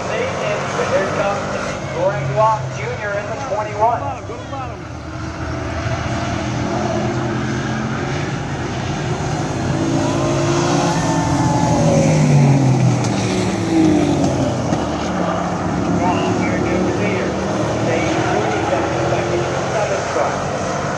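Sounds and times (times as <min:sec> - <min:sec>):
racing truck engines passing: 0:00.0 - 0:20.9.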